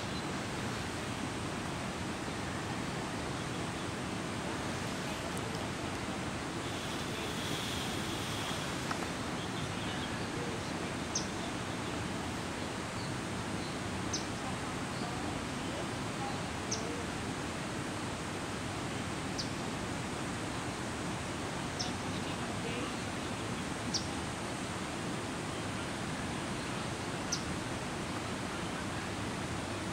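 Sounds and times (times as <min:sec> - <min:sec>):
water rushing: 0:00.0 - 0:29.9.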